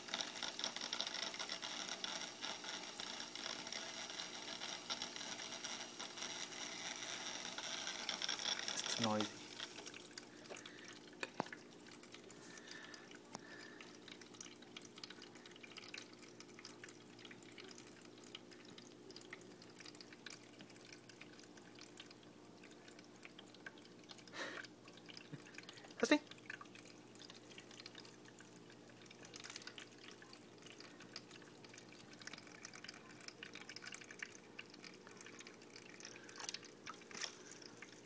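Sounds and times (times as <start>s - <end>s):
water trickling and dripping: 0.0s - 38.0s.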